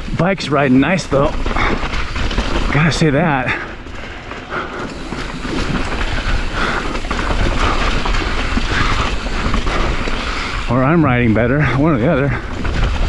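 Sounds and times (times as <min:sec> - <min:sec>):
bike parts rattling: 0:00.0 - 0:13.0
bike tyres clattering over stones: 0:00.0 - 0:13.0.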